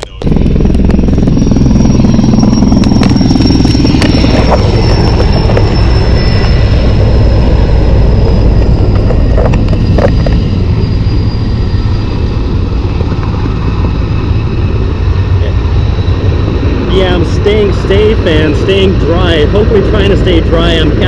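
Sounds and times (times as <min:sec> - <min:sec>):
helicopter rotor noise: 0:00.0 - 0:21.0
high turbine whine: 0:00.0 - 0:21.0.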